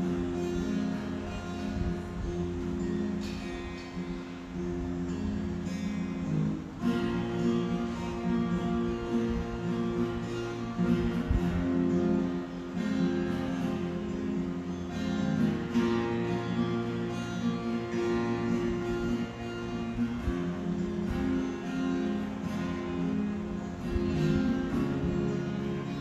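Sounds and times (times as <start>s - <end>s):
instrumental music sustained notes: 0.0s - 26.0s.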